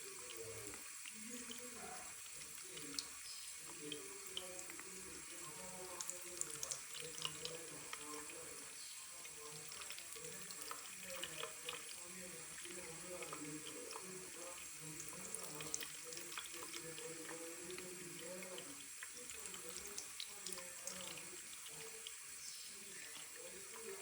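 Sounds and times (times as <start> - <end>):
tap water running into sink: 0.0 - 24.0
water splashes: 0.0 - 24.0.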